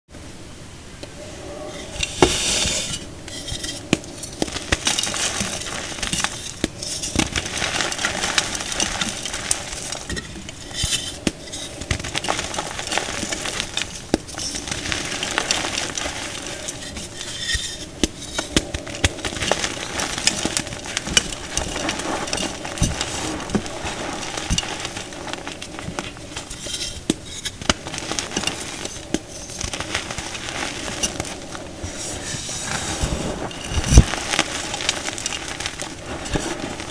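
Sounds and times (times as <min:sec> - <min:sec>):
chalk crunching and crackling: 0:01.9 - 0:36.9.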